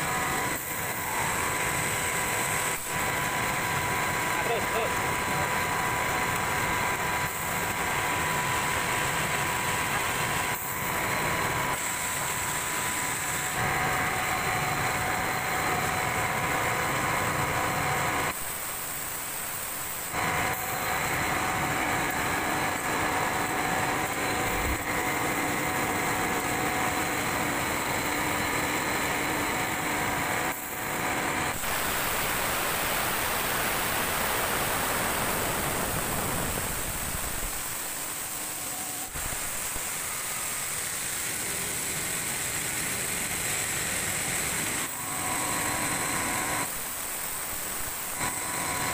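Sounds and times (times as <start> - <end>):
machine engine drone: 0.0 - 48.9.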